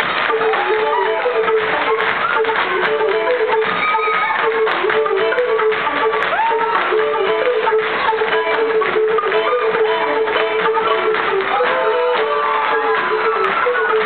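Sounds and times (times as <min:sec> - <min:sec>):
dance steps tapping on wooden stage: 0:00.0 - 0:14.0
lively folk dance tune: 0:00.0 - 0:14.0.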